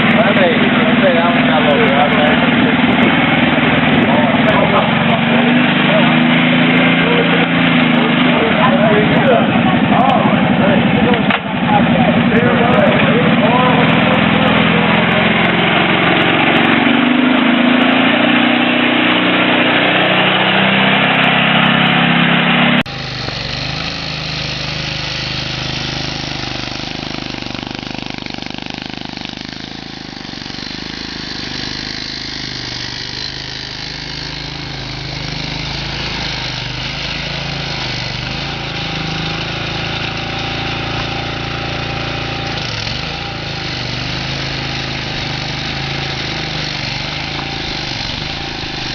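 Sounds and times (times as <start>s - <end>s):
engines running: 0.0s - 48.9s
quieter engine: 0.0s - 48.9s.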